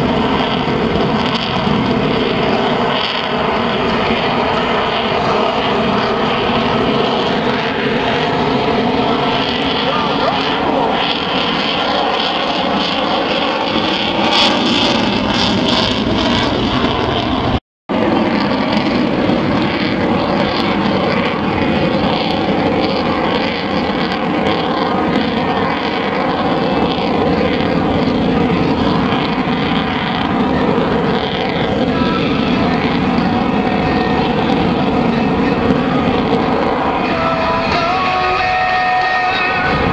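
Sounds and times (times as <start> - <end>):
jet fighter flying overhead: 0.0 - 39.9.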